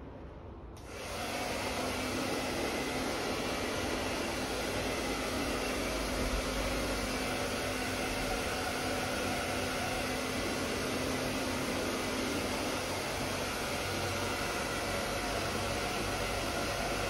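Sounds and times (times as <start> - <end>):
hot-air blower running: 0.8 - 17.0.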